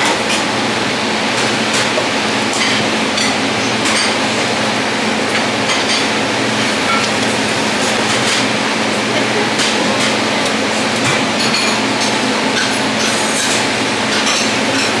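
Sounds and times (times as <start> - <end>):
kitchen hum and rush: 0.0 - 15.0
utensils and dishes clinking: 1.3 - 15.0.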